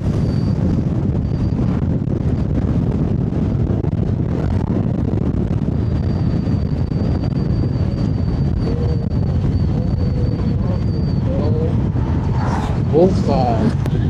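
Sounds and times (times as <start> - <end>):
high-pitched whine: 0.0 - 14.0
wind buffeting microphone: 0.0 - 14.0.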